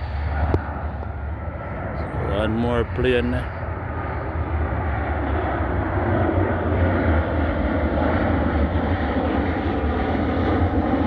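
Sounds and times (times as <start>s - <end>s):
airplane engine roar: 0.0s - 11.0s.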